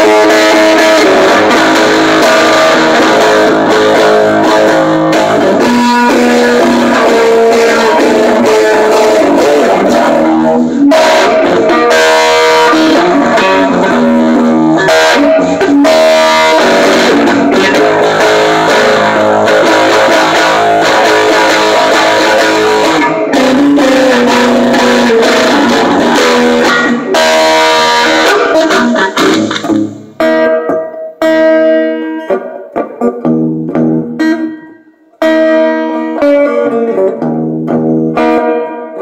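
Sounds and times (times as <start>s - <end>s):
amplified guitar strummed in chords: 0.0s - 39.0s.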